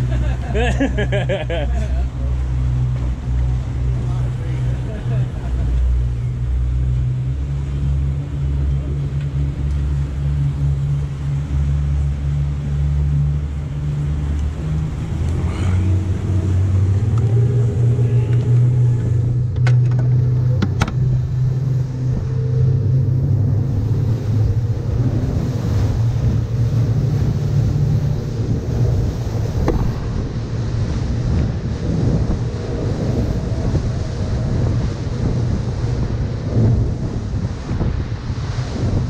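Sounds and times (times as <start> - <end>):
boat engines running: 0.0 - 39.0.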